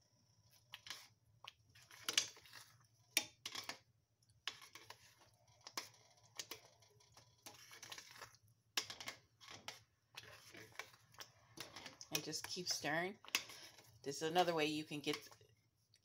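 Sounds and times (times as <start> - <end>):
metal spoon scraping a pot: 0.6 - 3.8, 4.4 - 14.2.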